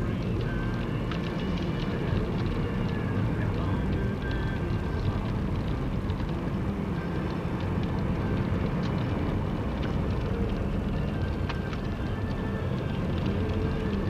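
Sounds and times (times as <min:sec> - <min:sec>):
vehicle engine rumble from inside: 0:00.0 - 0:14.0.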